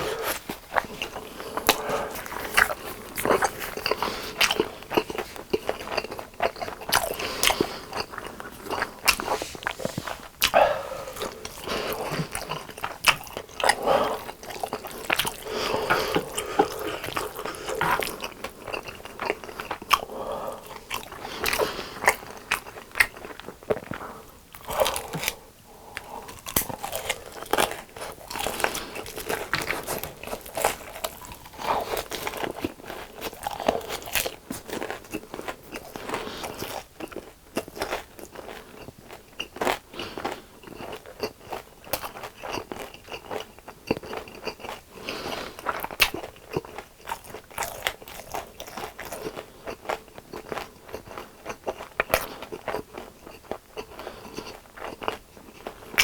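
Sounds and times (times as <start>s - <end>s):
chewing crispy fried chicken: 0.0s - 56.0s.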